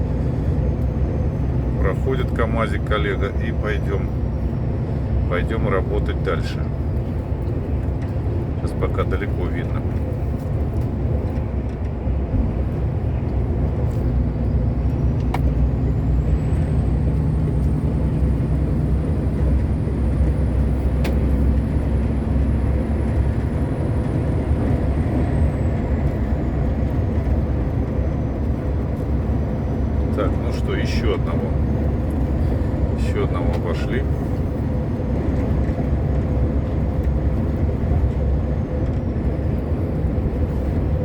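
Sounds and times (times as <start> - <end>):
truck engine and tyre drone: 0.0 - 41.0.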